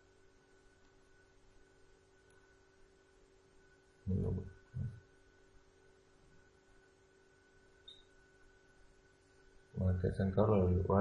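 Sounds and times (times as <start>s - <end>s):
faint electrical hum: 0.0s - 11.0s
thin steady whine: 0.0s - 11.0s.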